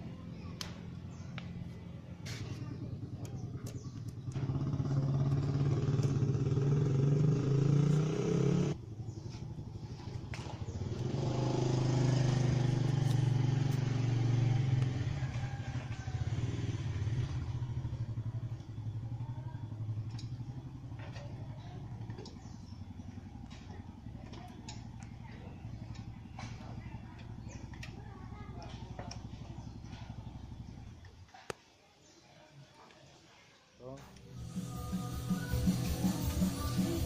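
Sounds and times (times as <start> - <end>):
motorcycle engine revving: 0.0 - 31.5, 34.2 - 37.0.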